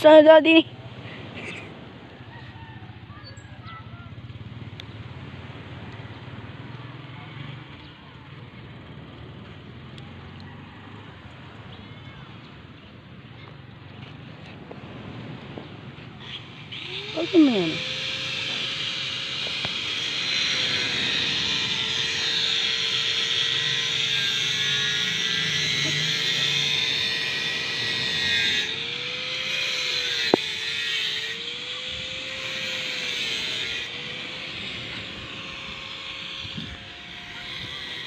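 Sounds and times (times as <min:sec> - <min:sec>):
engine drone: 0:04.0 - 0:38.0.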